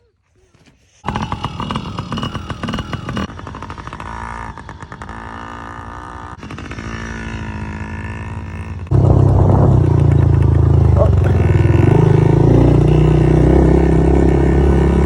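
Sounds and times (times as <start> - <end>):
dirt bike engine revving: 1.0 - 15.0
loud deep engine: 1.1 - 15.0.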